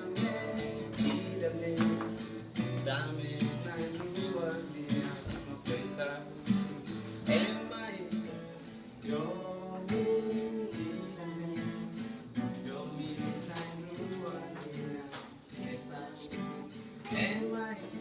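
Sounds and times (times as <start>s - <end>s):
person singing: 0.0s - 18.0s
strummed acoustic guitar: 0.0s - 18.0s.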